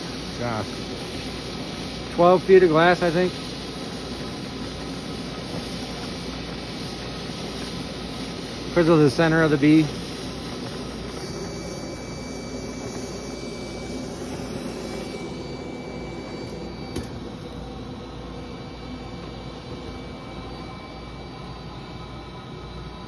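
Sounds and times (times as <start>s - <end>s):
gas burners roaring: 0.0s - 23.0s.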